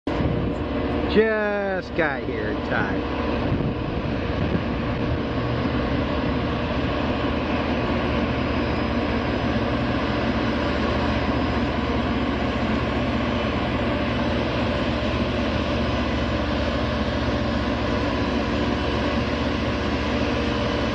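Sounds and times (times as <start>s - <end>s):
rail grinder diesel engines: 0.1s - 20.9s.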